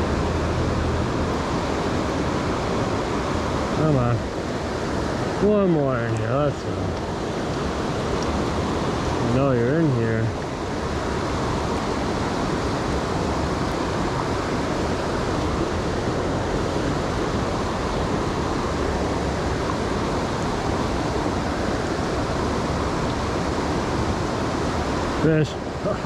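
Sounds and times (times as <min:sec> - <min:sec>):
fast-flowing river water: 0:00.0 - 0:26.0.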